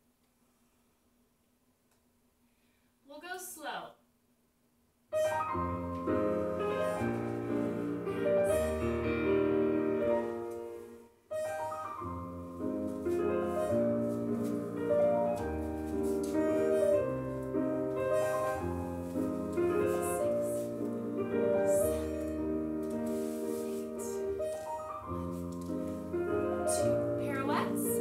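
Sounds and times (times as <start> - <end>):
piano waltz: 5.2 - 28.0.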